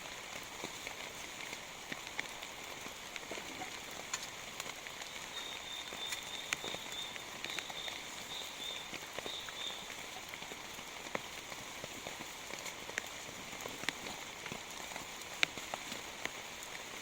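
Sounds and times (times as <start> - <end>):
heavy rain falling: 0.0 - 17.0
raindrops tapping a surface: 0.0 - 17.0.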